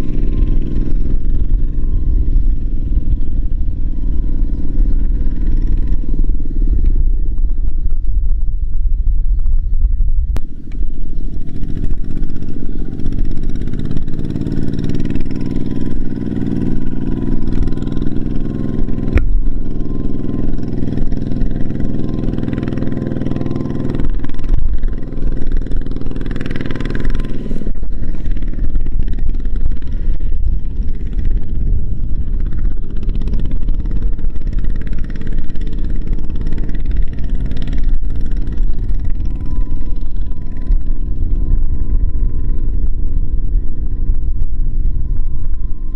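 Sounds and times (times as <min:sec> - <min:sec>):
diesel tractor engine under load: 0:00.0 - 0:45.9.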